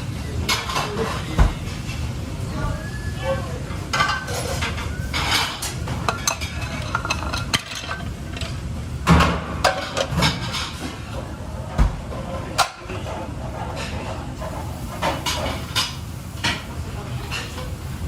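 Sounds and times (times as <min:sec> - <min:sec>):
dishes and utensils clinking: 0:00.4 - 0:02.0, 0:03.2 - 0:11.3, 0:12.1 - 0:17.8.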